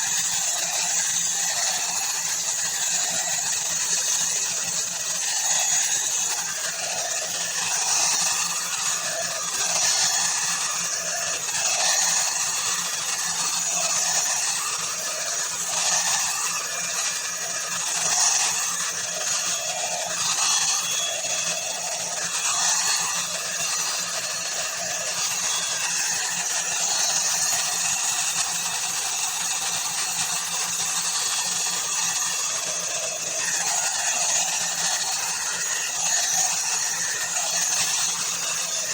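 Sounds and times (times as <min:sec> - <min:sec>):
hot air brush blowing whir: 0:00.0 - 0:38.9.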